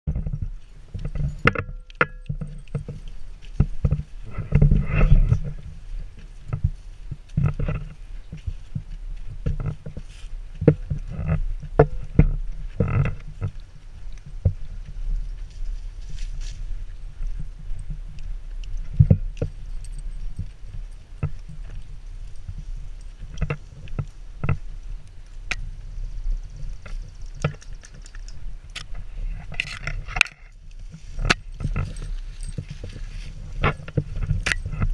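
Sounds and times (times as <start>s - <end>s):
camera movement rumble: 0.1s - 34.9s
rustling: 0.1s - 34.9s.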